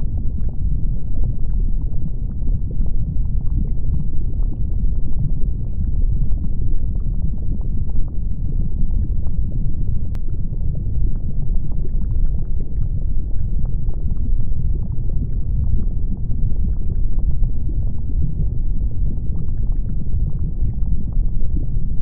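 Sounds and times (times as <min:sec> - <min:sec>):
lava crackling and popping: 0:00.0 - 0:22.0
lava rumbling: 0:00.0 - 0:22.0.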